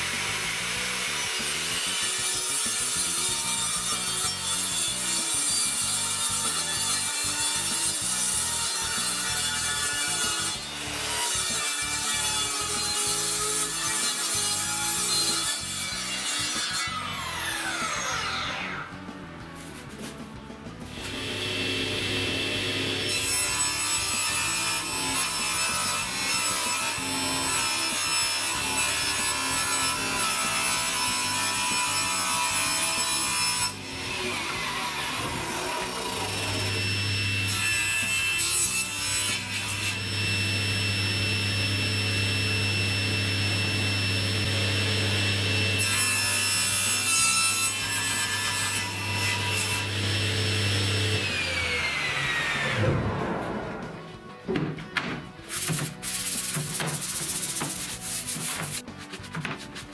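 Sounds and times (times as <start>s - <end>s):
table saw cutting wood: 0.0s - 19.1s, 20.9s - 54.5s, 55.4s - 59.9s.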